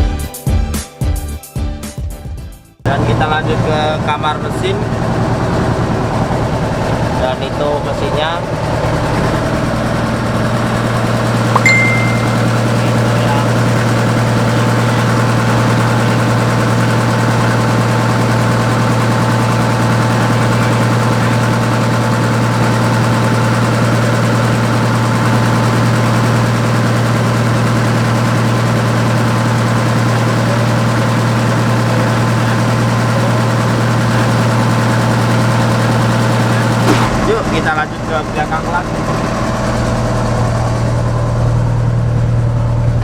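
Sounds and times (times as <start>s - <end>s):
boat engine humming: 2.9s - 43.0s.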